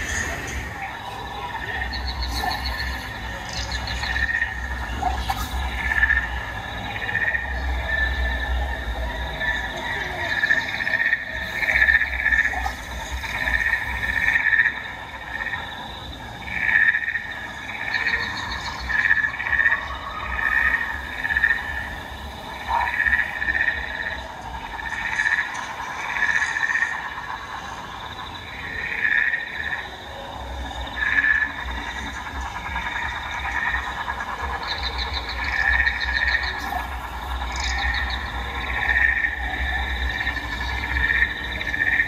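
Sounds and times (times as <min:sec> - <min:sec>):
frog-like croaking calls: 0:00.0 - 0:42.0.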